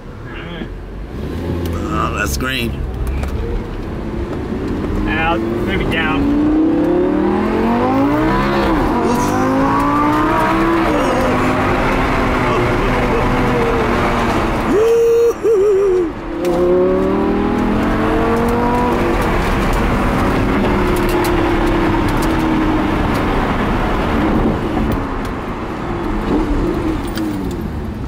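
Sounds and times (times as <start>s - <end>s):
car engine accelerating: 0.0s - 28.0s
wind and road noise: 0.0s - 28.0s.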